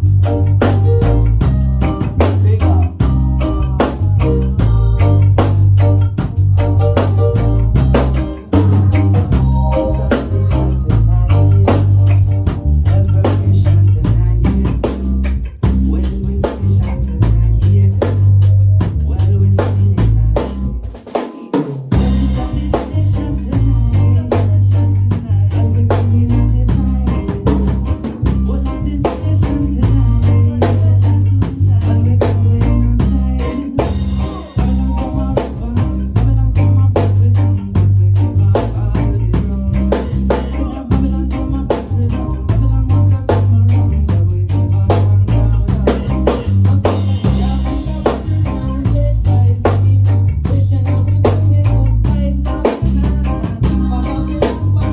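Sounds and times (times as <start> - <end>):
heavy bass line: 0.0 - 20.9, 21.9 - 54.9
live band playing: 0.0 - 54.9.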